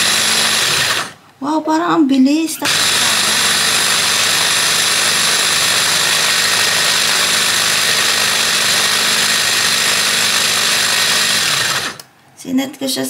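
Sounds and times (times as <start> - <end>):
blade chopping carrots: 0.0 - 1.2, 2.6 - 12.0
hand blender motor whining: 0.0 - 1.2, 2.6 - 12.0.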